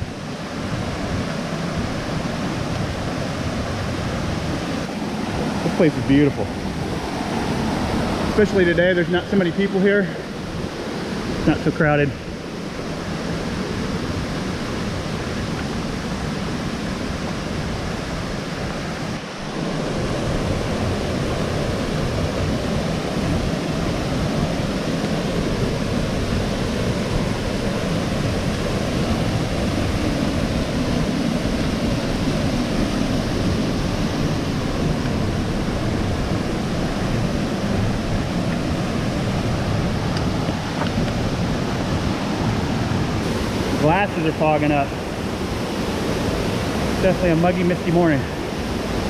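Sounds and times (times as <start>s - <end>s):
waterfall and creek water rushing: 0.0s - 49.0s.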